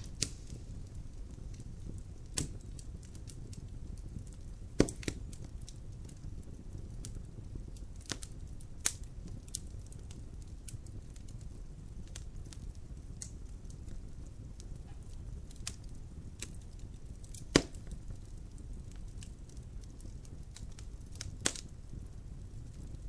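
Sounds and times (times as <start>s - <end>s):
fire crackling in a fireplace: 0.0s - 23.0s
sharp pops from fire: 0.0s - 23.0s.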